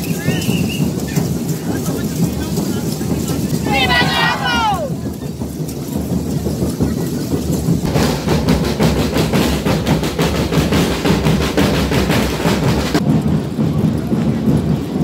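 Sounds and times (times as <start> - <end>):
marching bass and snare drums: 0.0 - 15.0.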